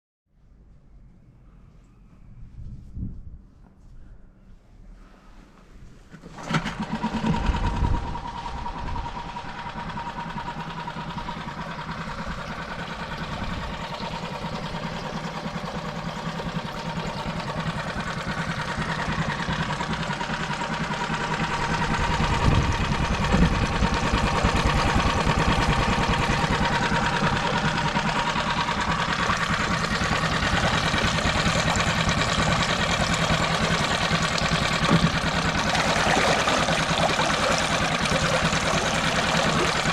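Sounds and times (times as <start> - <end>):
outboard motor running: 6.3 - 39.9.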